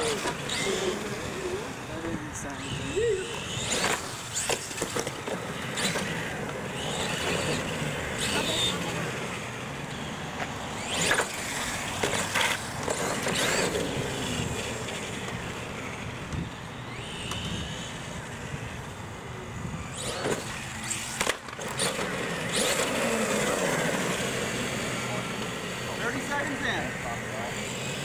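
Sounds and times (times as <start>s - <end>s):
electric motor whirring: 0.0s - 28.0s
toy truck tyres rolling on concrete: 0.0s - 28.0s.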